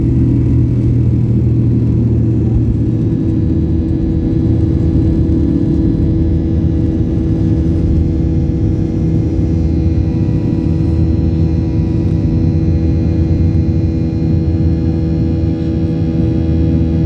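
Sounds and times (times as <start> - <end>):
airplane engines rumbling: 0.0 - 17.0.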